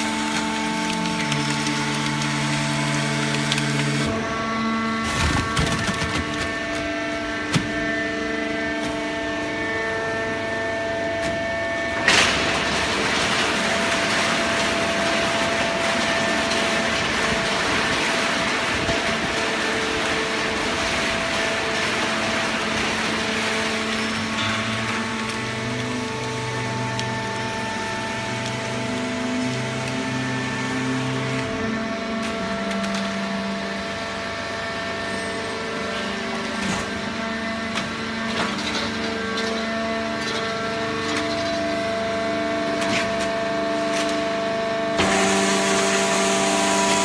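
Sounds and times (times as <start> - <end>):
hydraulic baler humming: 0.0 - 47.0.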